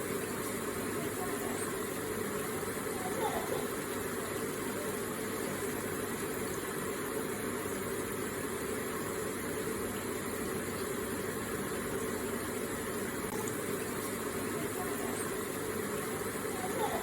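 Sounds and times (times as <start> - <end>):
water feature splashing: 0.0 - 17.0.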